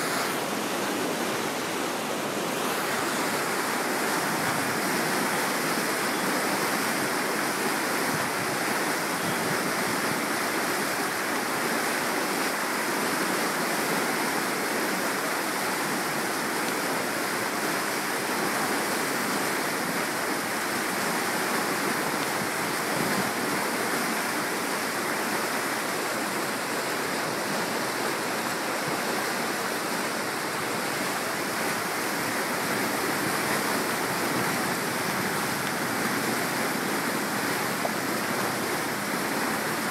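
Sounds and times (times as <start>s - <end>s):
rush of flowing water: 0.0s - 39.9s.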